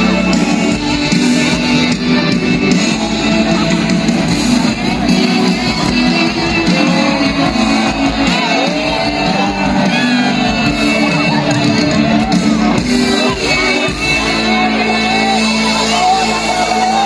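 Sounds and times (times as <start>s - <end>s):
crowd shouting along: 0.0s - 17.0s
loud band music: 0.0s - 17.0s.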